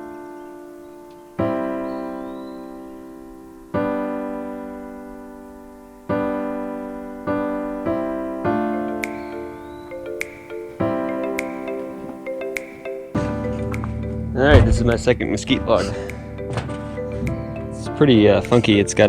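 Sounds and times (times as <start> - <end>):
slow keyboard chords: 0.0 - 19.0.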